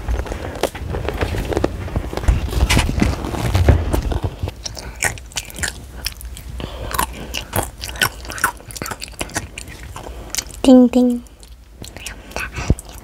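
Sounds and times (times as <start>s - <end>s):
child chewing crunchy chips: 0.0s - 13.0s.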